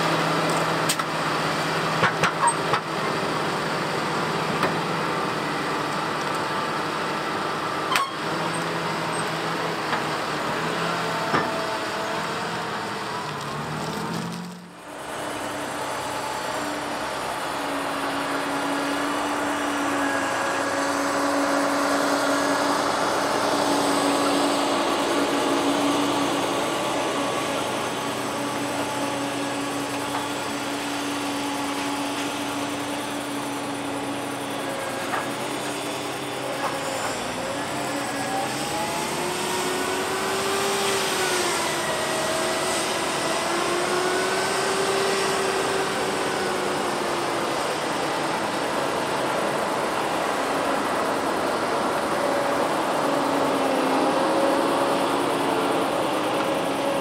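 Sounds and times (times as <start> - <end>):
combine harvester engines passing: 0.0 - 57.0.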